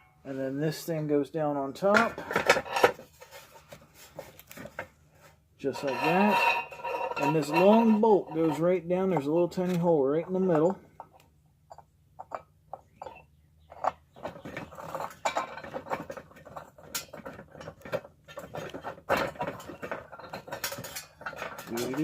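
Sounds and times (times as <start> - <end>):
metal rattling and scraping: 1.8 - 22.0.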